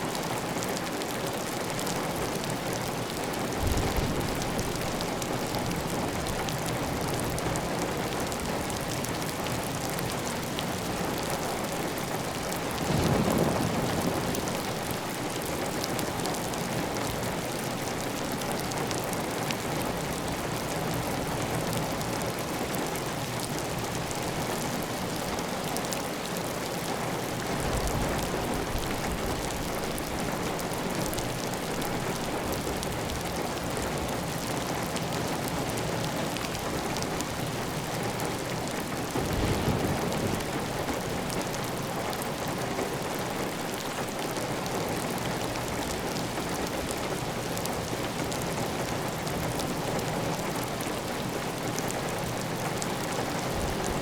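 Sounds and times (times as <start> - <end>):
heavy rain on a tile roof: 0.0 - 54.0.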